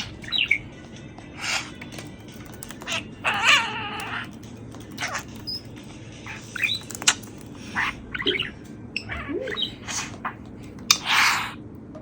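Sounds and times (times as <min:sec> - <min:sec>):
parakeet chirping and chattering: 0:00.0 - 0:11.6.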